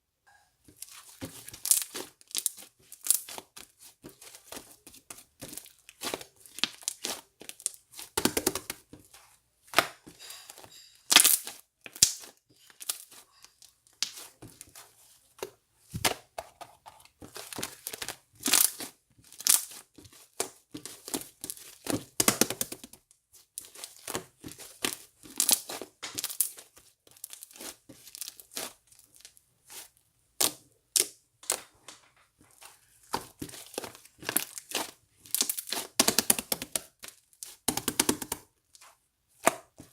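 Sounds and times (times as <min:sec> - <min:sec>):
material crinkling and tearing: 0:00.7 - 0:16.2, 0:16.8 - 0:39.9.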